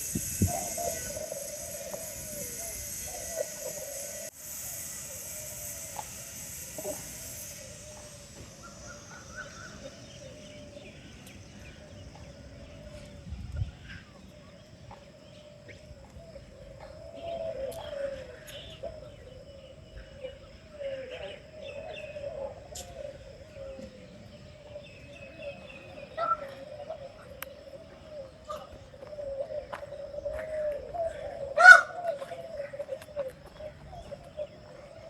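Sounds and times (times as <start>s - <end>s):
birds chirping and calling: 0.0s - 35.0s.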